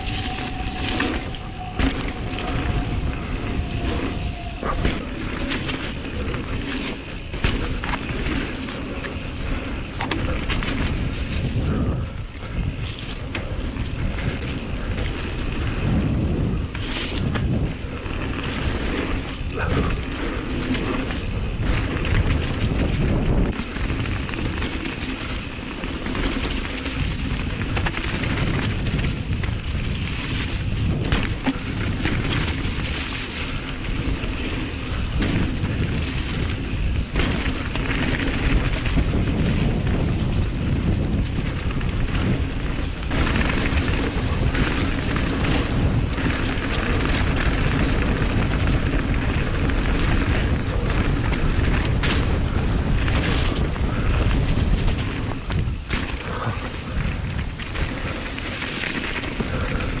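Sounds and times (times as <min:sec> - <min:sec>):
tyres rumbling on rough trail: 0:00.0 - 1:00.0
wind buffeting microphone: 0:00.0 - 1:00.0
bike knocks and rattles: 0:04.6 - 1:00.0.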